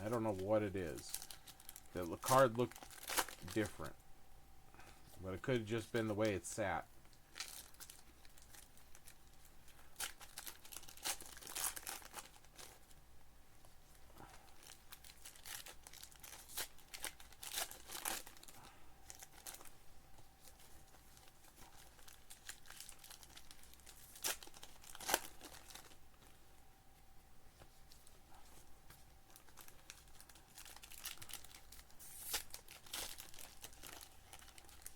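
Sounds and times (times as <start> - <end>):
foil wrappers crinkling: 0.0 - 4.0, 4.8 - 13.0, 13.9 - 26.5, 27.6 - 34.9.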